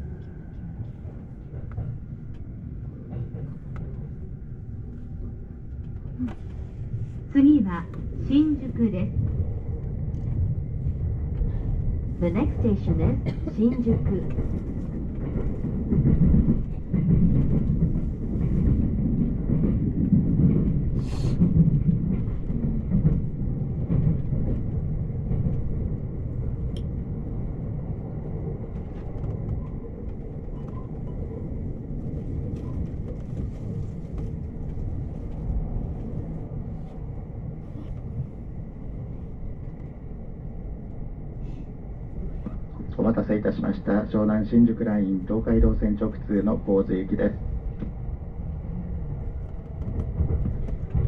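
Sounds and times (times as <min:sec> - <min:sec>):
train wheels rumbling on track: 0:00.0 - 0:51.0.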